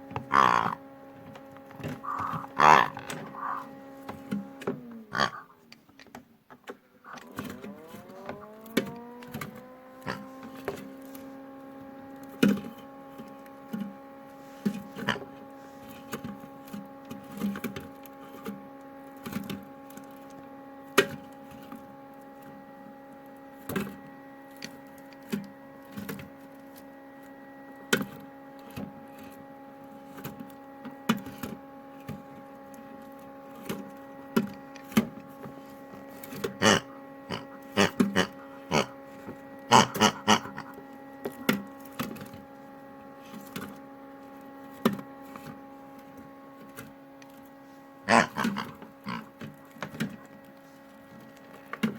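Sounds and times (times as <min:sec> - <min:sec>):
washing machine motor whining: 0:00.0 - 0:05.8, 0:06.7 - 0:51.9.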